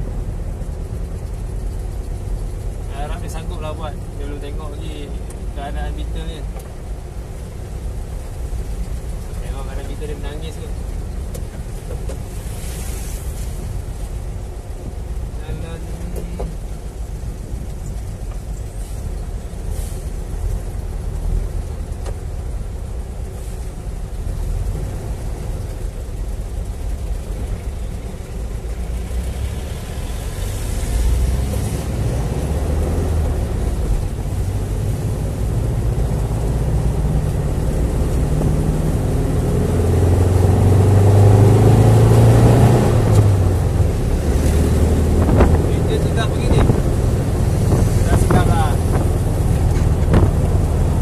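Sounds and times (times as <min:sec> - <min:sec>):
car engine running in traffic: 0:00.0 - 0:51.0.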